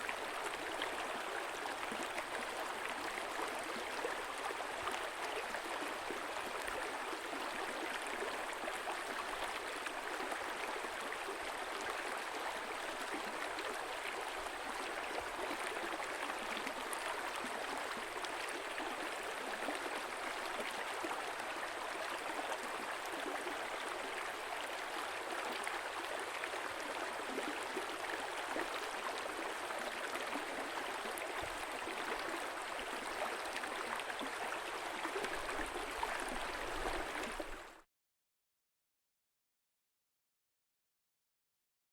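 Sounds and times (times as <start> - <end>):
stream babbling: 0.1 - 37.6.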